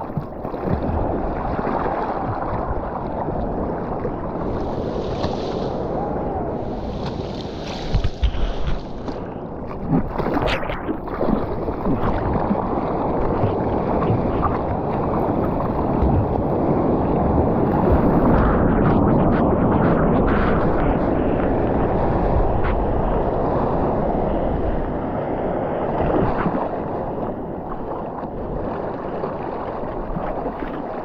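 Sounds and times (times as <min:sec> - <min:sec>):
wind buffeting microphone: 0:00.0 - 0:31.0
ocean surf rushing: 0:00.9 - 0:10.8, 0:11.4 - 0:30.1.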